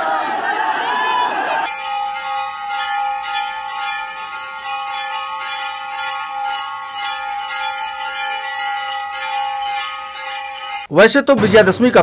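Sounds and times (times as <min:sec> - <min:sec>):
temple bells clanging rapidly: 0:01.6 - 0:12.0.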